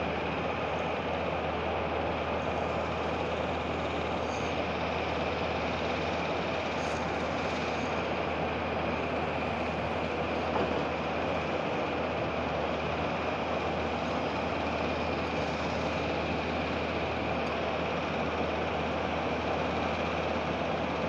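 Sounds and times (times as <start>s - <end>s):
heavy industrial machinery drone: 0.0s - 21.0s.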